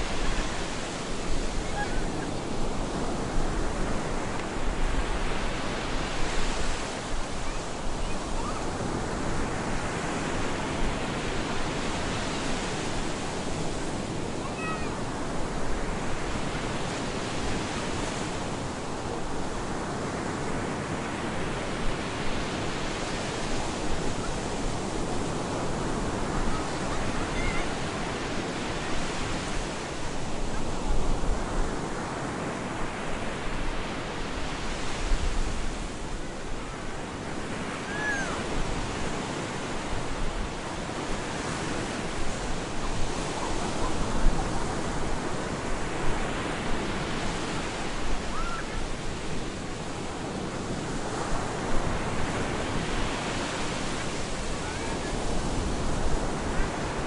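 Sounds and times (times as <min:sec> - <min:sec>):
surf breaking on a beach: 0:00.0 - 0:57.0
wind rumbling on microphone: 0:00.0 - 0:57.0.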